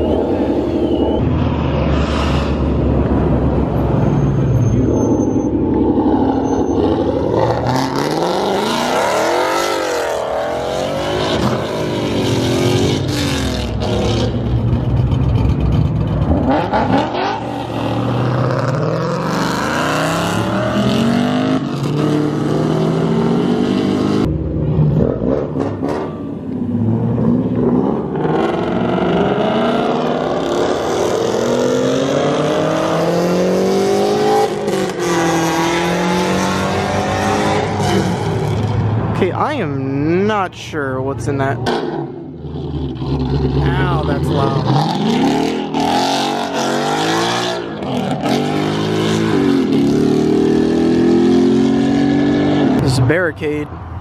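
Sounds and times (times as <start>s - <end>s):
car engines accelerating hard: 0.0s - 54.0s.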